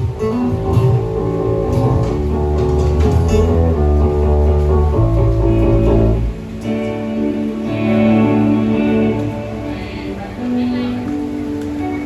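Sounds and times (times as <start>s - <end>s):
guitar notes and chords: 0.0s - 12.0s
steady bass line: 0.0s - 12.0s.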